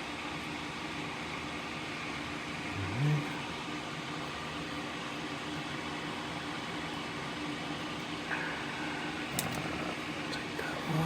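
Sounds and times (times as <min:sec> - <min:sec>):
mechanical hum and hiss: 0:00.0 - 0:11.0.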